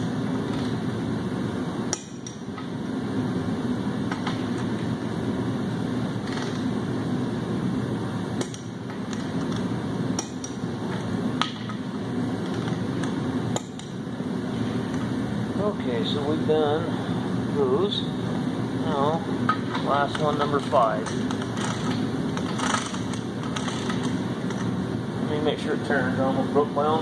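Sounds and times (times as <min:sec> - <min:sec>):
steady shop hum: 0:00.0 - 0:27.0.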